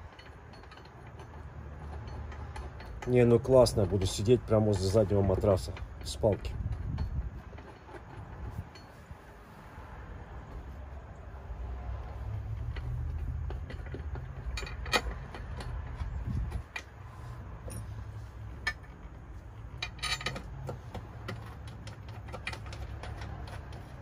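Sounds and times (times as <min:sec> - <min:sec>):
metallic clicks of bolts and tools: 0:00.0 - 0:09.0, 0:11.8 - 0:24.0
low steady rumble: 0:00.0 - 0:24.0.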